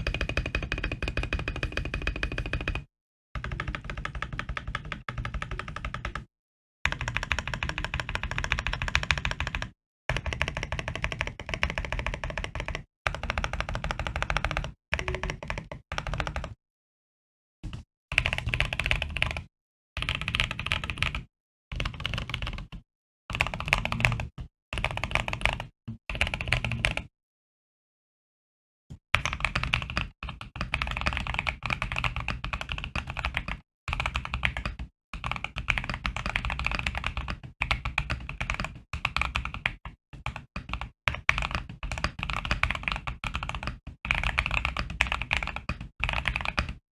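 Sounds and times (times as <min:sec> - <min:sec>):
mechanical keyboard typing: 0:00.0 - 0:06.3, 0:06.9 - 0:16.6, 0:18.1 - 0:27.1, 0:29.2 - 0:46.8.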